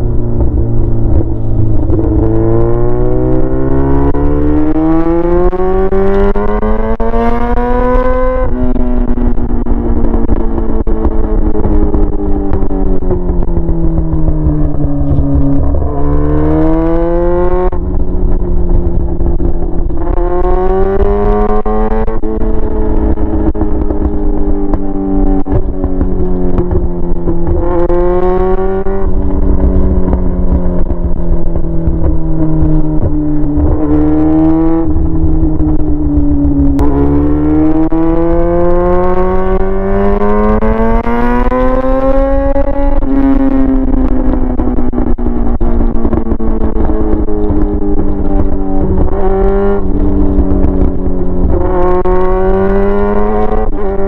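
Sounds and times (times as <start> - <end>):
straight-piped motorcycle engine revving: 0.0 - 54.0.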